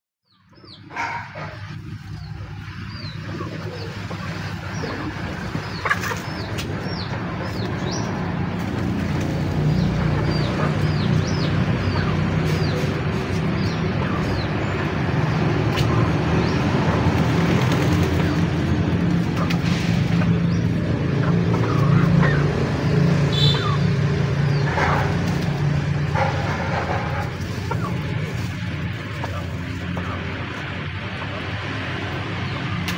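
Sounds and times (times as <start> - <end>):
small birds chirping: 0.3 - 32.9.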